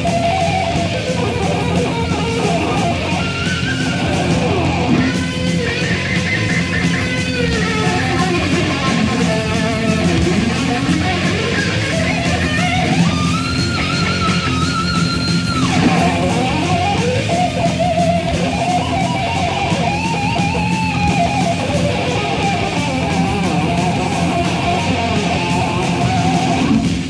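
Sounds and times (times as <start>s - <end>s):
distorted electric guitars and bass: 0.0s - 27.0s
lead guitar bending notes: 0.0s - 27.0s.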